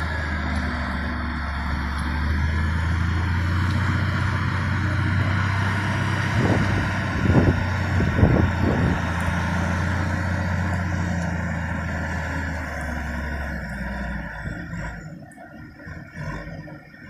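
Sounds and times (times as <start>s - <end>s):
wheel loader diesel engine running: 0.0s - 17.0s.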